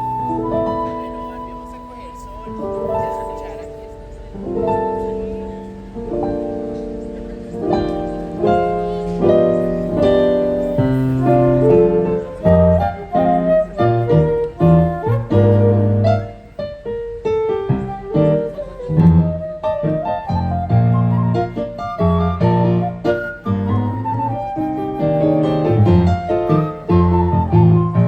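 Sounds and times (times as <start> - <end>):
live instrumental ensemble: 0.0 - 28.0.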